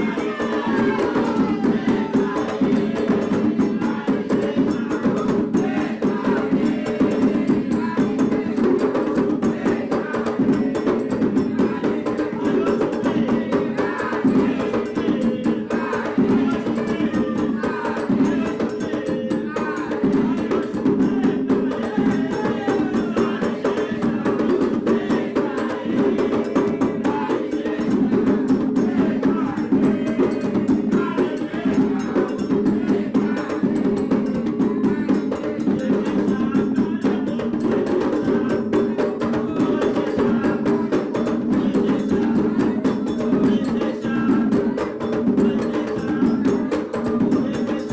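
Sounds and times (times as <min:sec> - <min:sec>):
hand drums playing a dense rhythm: 0:00.0 - 0:47.9
voices singing over drums: 0:00.0 - 0:47.9.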